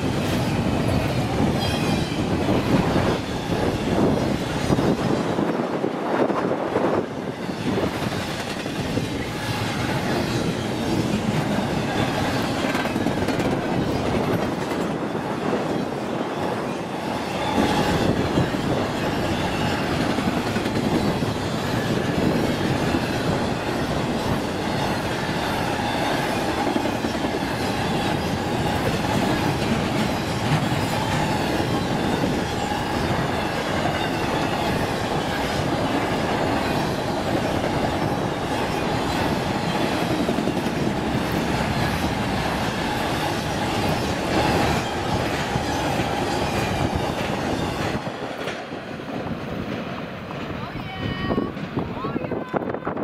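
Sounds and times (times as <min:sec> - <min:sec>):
freight train passing: 0:00.0 - 0:53.0
steel wheels clattering on rails: 0:00.0 - 0:53.0.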